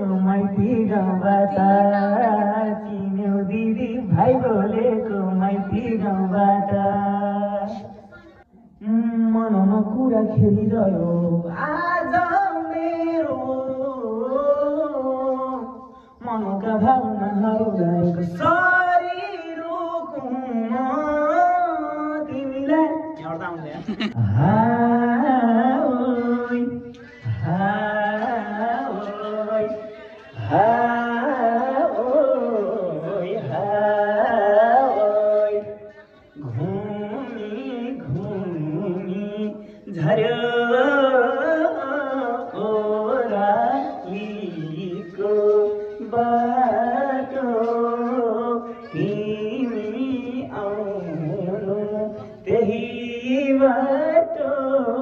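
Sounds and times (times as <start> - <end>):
young man singing: 0.0 - 55.0.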